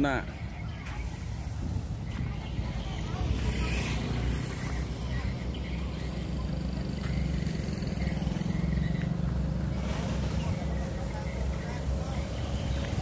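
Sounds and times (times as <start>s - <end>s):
motorbike engine rumbling: 0.0s - 13.0s.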